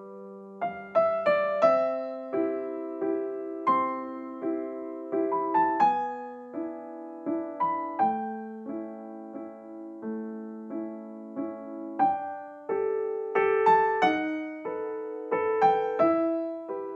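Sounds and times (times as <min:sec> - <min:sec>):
gentle piano melody: 0:00.0 - 0:16.9.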